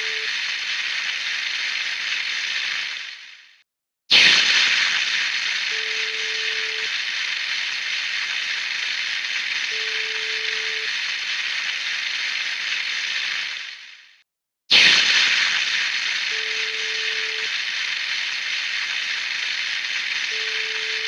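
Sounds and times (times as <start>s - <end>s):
food sizzling on grill: 0.0s - 3.2s, 4.3s - 13.8s, 15.0s - 21.0s.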